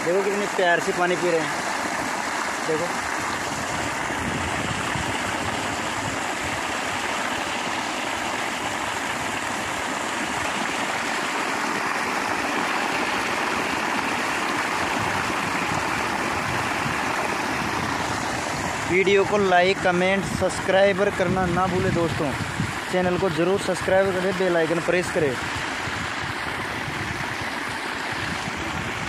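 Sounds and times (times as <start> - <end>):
water gushing from hose: 0.0 - 29.0.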